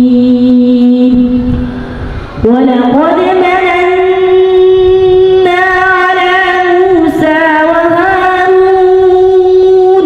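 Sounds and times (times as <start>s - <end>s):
boy chanting melodically into microphone: 0.0s - 10.0s.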